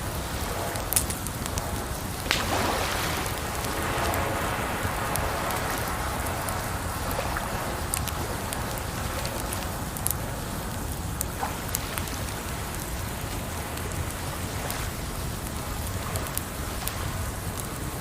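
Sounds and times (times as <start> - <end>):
campfire crackling and popping: 0.0 - 18.0
water flowing: 0.0 - 18.0.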